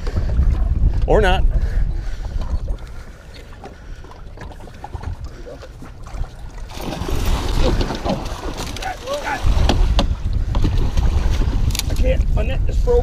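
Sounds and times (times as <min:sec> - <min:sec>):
water lapping against boat hull: 0:00.0 - 0:13.0
wind buffeting microphone: 0:00.0 - 0:13.0.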